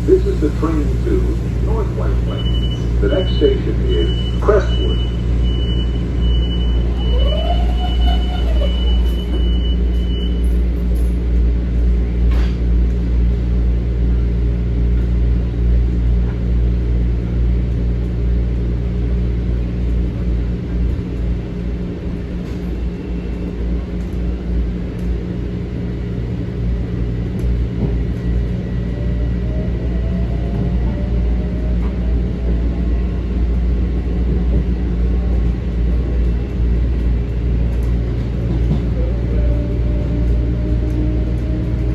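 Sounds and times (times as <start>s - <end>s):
train rumble inside car: 0.0s - 41.9s
constant low hum: 7.4s - 41.9s.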